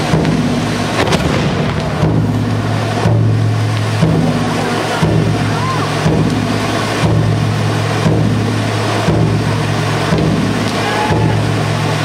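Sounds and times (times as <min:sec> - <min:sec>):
firework spraying sparks: 0:00.0 - 0:12.0.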